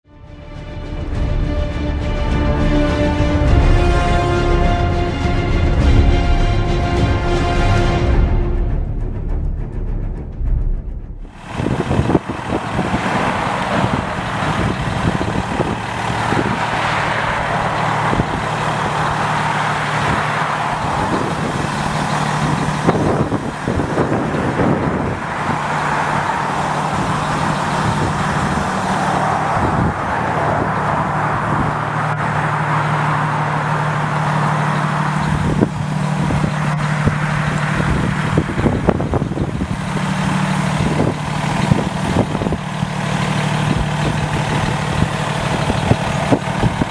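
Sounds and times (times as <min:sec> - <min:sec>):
diesel engine running: 0:00.4 - 0:09.5, 0:10.2 - 0:46.9.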